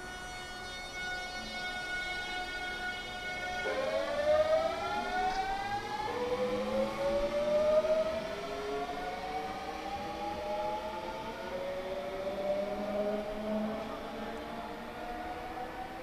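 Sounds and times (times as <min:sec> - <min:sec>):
electric train motors whining: 0:00.0 - 0:16.0.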